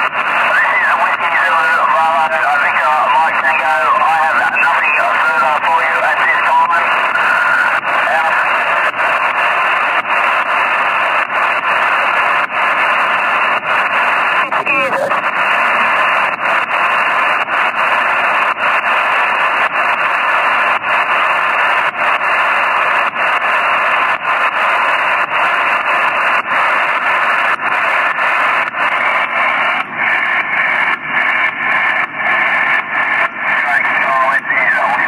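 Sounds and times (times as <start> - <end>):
faint weak radio signal: 0.0 - 35.0
radio static hiss: 0.0 - 35.0.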